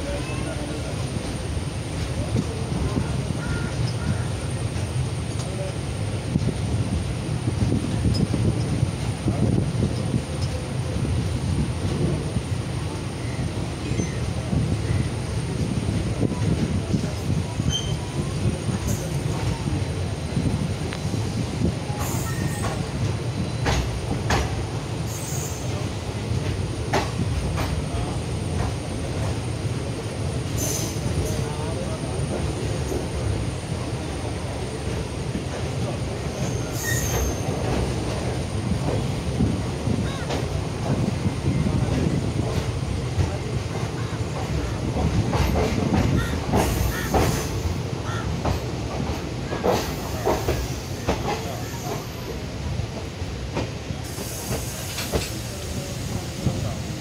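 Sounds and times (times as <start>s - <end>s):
train running gear rumble: 0.0s - 57.0s
wheels clacking on track: 0.0s - 57.0s.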